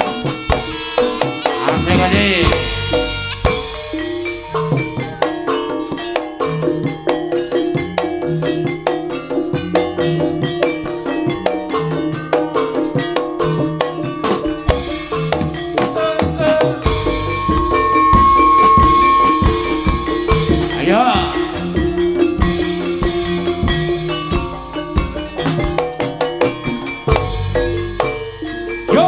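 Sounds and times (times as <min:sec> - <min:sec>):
drums: 0:00.0 - 0:29.0
metallophones playing ringing notes: 0:00.0 - 0:29.0.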